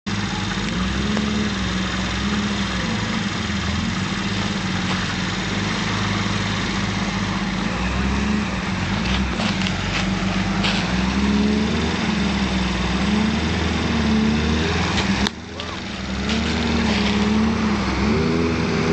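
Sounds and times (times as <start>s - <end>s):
car engine running: 0.0s - 18.9s.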